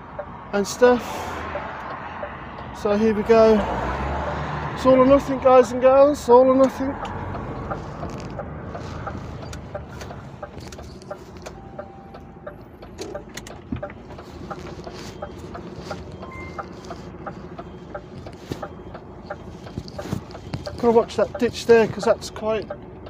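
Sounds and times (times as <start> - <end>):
indicator relay ticking: 0.0 - 0.8, 1.5 - 3.5, 5.0 - 23.0
diesel engine running: 0.0 - 23.0.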